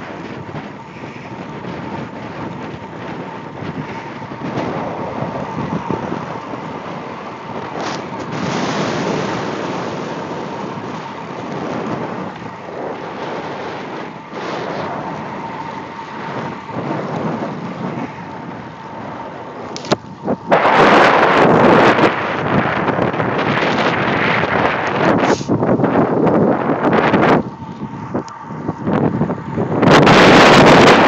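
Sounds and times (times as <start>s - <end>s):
bicycle tyre rolling on asphalt: 0.0s - 31.0s
wind rushing over microphone: 0.0s - 31.0s.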